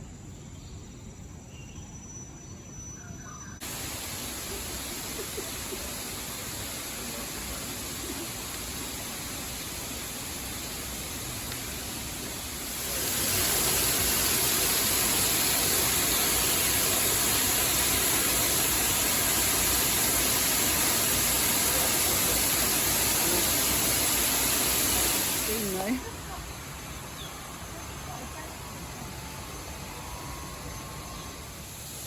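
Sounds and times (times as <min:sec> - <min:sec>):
steady rushing noise: 0:03.6 - 0:32.0.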